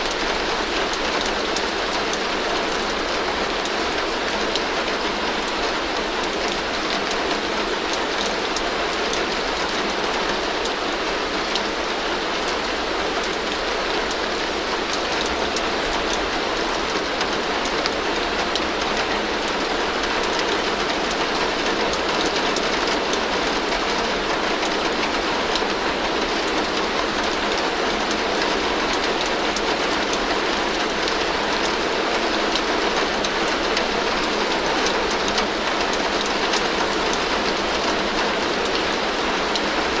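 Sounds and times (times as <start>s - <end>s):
heavy rain on a tin roof: 0.0s - 40.0s.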